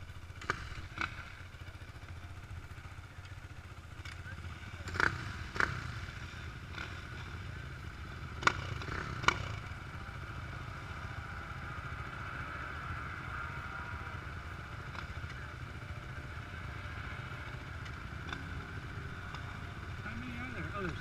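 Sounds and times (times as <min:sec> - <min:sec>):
dirt bike engines running: 0:00.0 - 0:21.0.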